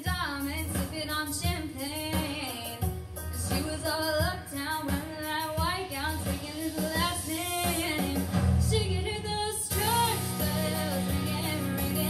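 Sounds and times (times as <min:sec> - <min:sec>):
instrumental accompaniment: 0:00.0 - 0:12.0
woman singing a ballad: 0:00.0 - 0:12.0.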